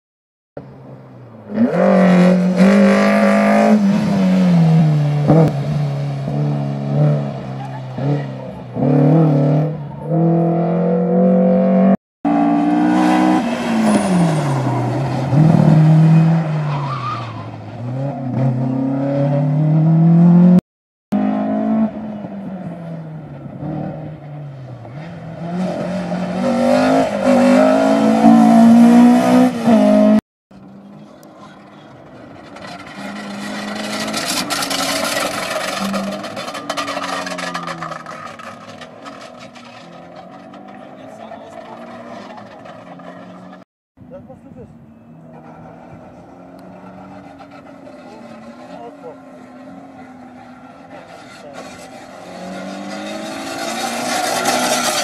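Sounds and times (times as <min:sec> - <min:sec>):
race car engines revving: 0:00.6 - 0:43.7, 0:44.4 - 0:55.0.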